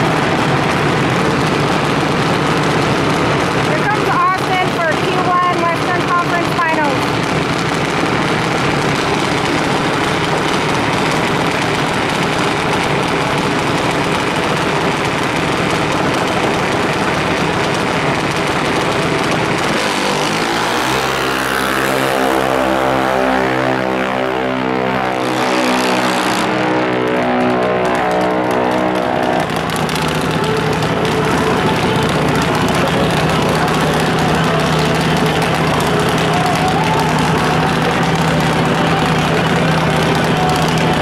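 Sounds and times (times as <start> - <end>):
dragster engine wavering pitch: 0.0 - 41.0
loud drag racing engines: 0.0 - 41.0.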